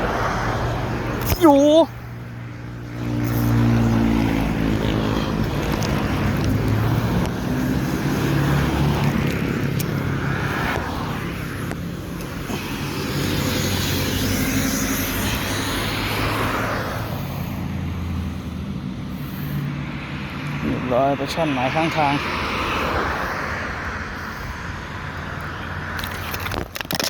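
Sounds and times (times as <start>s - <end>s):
vehicle engine humming: 0.0s - 22.1s
road and wind noise: 0.0s - 27.0s.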